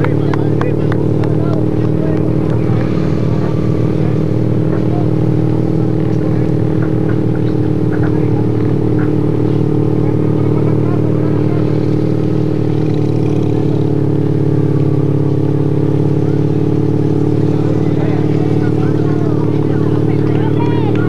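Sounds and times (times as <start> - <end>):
motor vehicle engines droning: 0.0 - 21.0.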